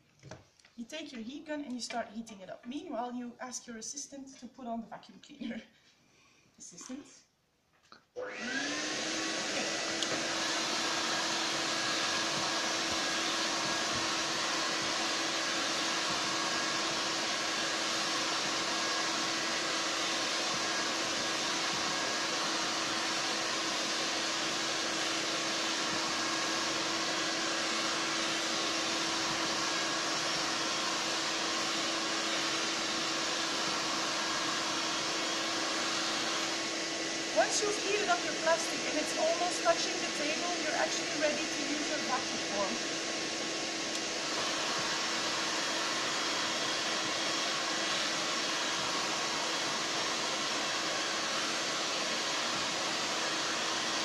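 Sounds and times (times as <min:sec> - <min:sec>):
heat gun blowing air: 0:08.2 - 0:54.0
vacuum cleaner running: 0:08.2 - 0:54.0.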